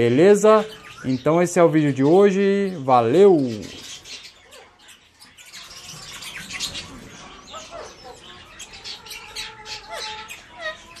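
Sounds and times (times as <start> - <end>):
parrots chattering: 0.0 - 11.0.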